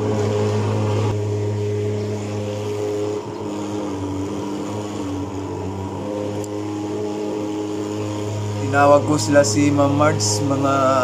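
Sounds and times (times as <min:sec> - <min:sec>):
fogging machine engine drone: 0:00.0 - 0:11.0.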